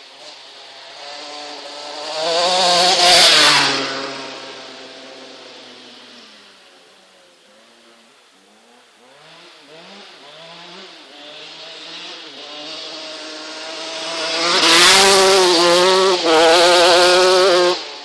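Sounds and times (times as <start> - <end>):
motocross motorcycle engine accelerating: 0.1 - 6.5, 7.6 - 18.0.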